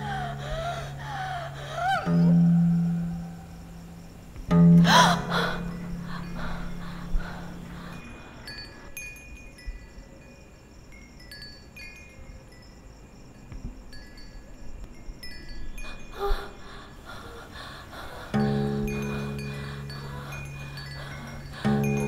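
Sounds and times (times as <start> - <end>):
wind chimes tinkling: 0.0 - 22.0.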